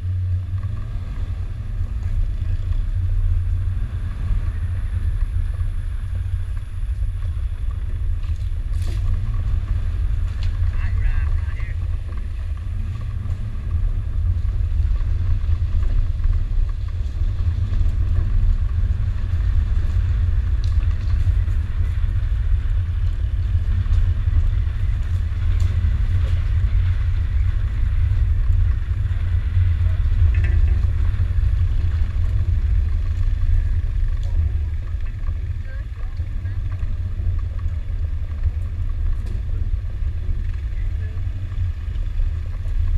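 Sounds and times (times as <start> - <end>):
truck engine low rumble: 0.0 - 42.9.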